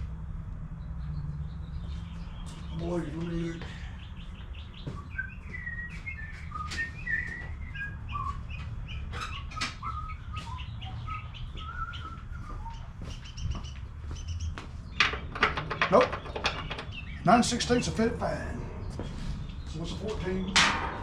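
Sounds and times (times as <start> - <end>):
steady low hum: 0.0 - 15.8, 16.4 - 21.0
small birds chirping: 0.0 - 21.0.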